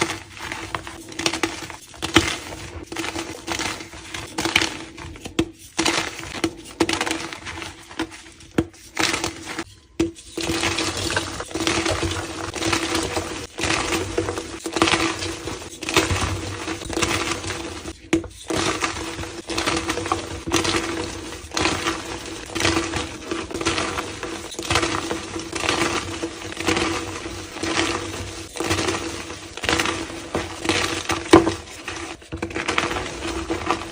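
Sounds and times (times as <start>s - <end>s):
chalk blocks crunching: 0.0s - 33.9s.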